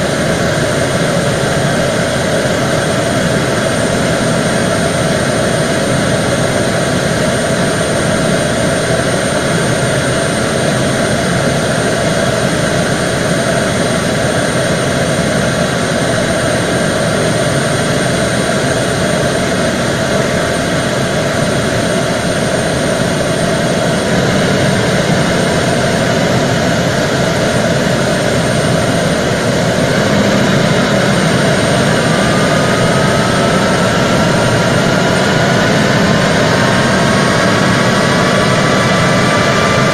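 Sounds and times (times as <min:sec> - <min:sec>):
rising whine: 0:00.0 - 0:39.9
turboprop engines droning: 0:00.0 - 0:39.9.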